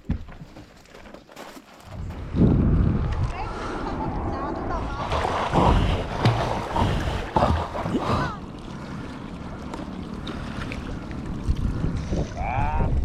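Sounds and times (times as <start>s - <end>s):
water sloshing around kayak: 0.0s - 13.0s
wind buffeting microphone: 1.9s - 13.0s.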